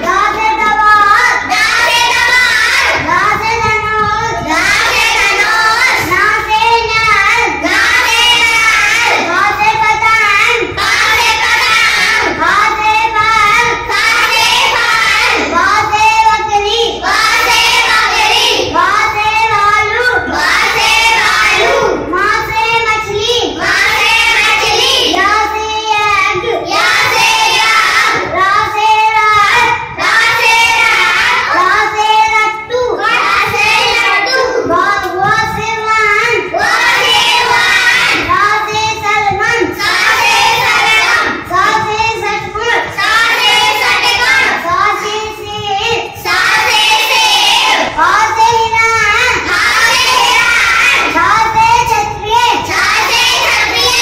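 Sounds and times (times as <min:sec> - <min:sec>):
child chanting sing-song: 0:00.0 - 0:54.0.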